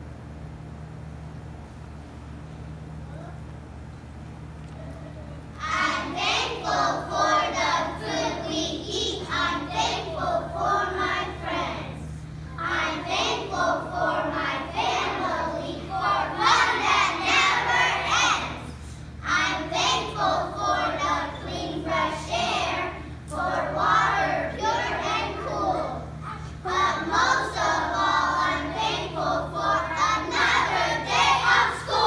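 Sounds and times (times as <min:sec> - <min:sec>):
children singing together: 0:05.6 - 0:32.0.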